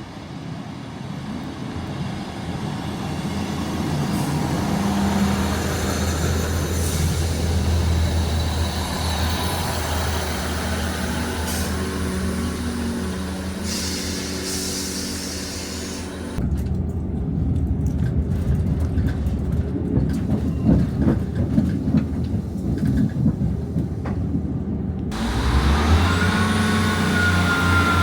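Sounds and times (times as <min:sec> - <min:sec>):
diesel train engines droning: 0:00.0 - 0:28.0.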